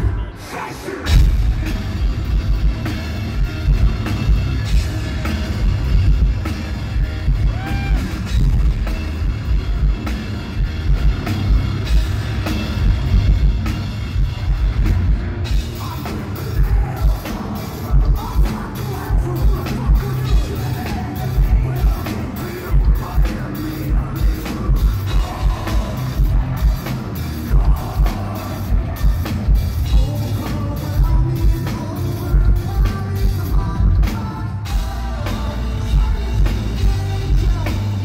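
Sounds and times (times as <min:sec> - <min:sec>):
drum kit: 0:00.0 - 0:38.0
live hard rock band: 0:00.0 - 0:38.0.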